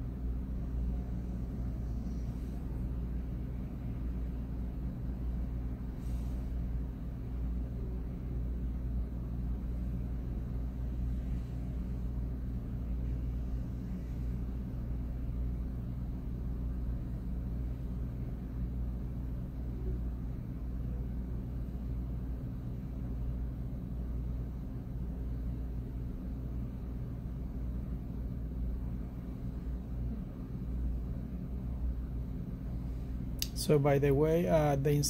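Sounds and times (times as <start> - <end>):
laptop humming with held tones: 0.0 - 35.0.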